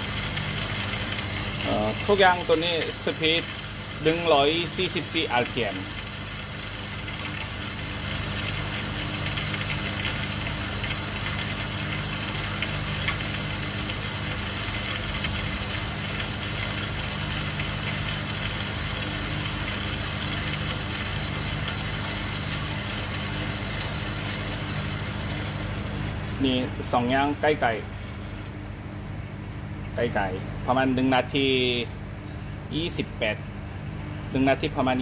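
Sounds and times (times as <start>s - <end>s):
coffee beans crackling in grinder: 0.0s - 28.5s
motor hum: 0.0s - 35.0s.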